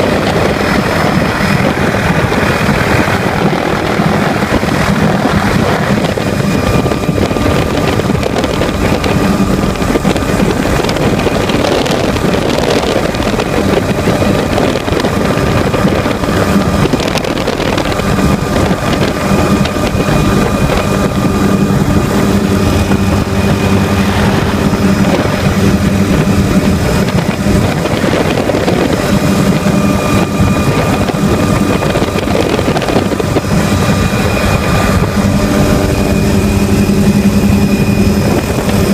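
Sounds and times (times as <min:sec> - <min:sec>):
helicopter engine and rotor drone: 0:00.0 - 0:38.9
wind on microphone: 0:00.0 - 0:38.9.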